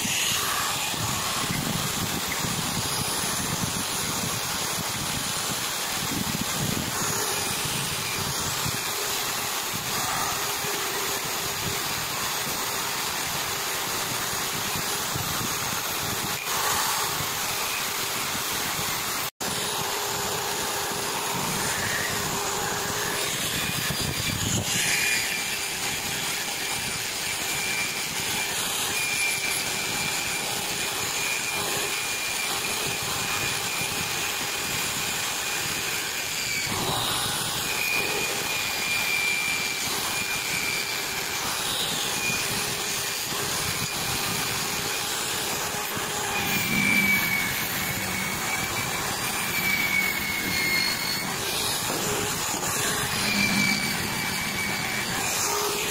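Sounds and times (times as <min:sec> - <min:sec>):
electric motor humming: 0:00.0 - 0:55.9
wire brush scrubbing metal: 0:00.0 - 0:55.9.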